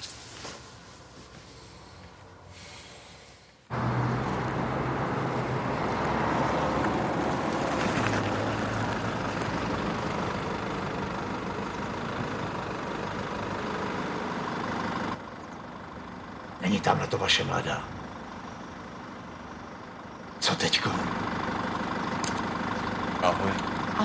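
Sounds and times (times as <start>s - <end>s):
vehicle engine and road noise: 0.0s - 24.0s.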